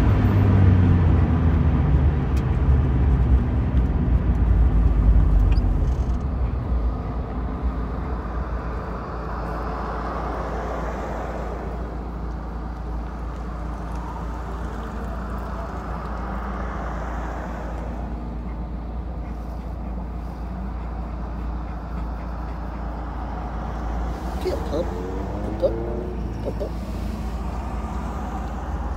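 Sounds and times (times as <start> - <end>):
car engine: 0.0 - 28.9
road noise: 0.0 - 28.9.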